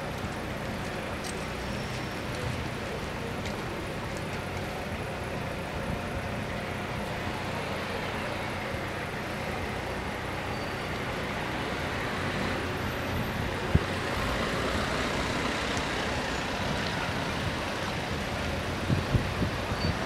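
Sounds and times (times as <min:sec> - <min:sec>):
street traffic noise: 0:00.0 - 0:20.0
vehicles idling: 0:00.0 - 0:20.0.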